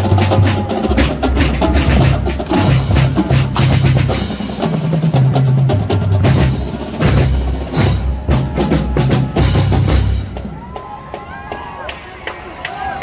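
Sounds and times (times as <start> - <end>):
bass drums: 0.0 - 10.7
snare drums: 0.0 - 10.7.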